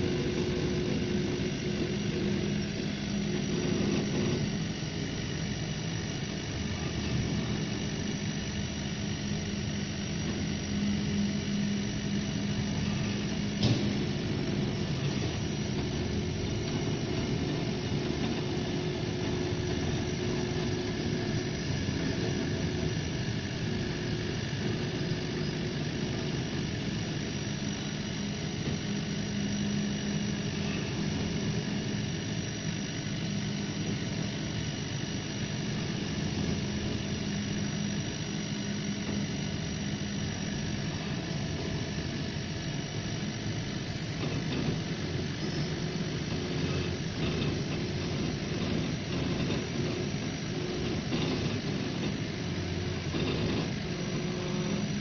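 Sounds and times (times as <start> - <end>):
laser engraver humming: 0.0 - 55.0
faint high whine: 8.9 - 55.0.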